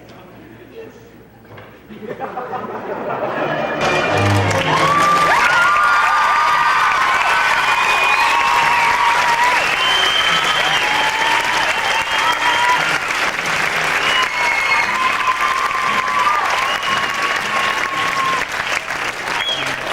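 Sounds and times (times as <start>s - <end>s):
audience applauding: 3.8s - 19.9s.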